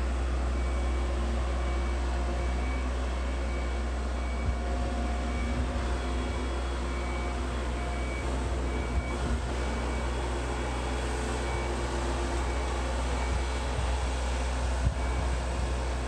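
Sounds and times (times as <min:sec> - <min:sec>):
travel lift engine droning: 0:00.0 - 0:16.0.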